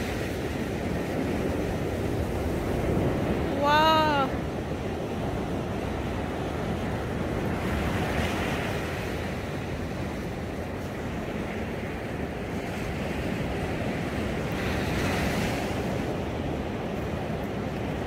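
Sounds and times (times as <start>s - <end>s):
surf washing onto beach: 0.0s - 18.0s
wind buffeting microphone: 0.0s - 18.0s.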